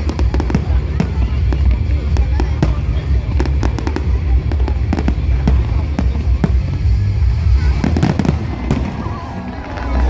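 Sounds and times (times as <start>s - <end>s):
fireworks popping and banging: 0.0s - 10.0s
music playing: 0.0s - 10.0s.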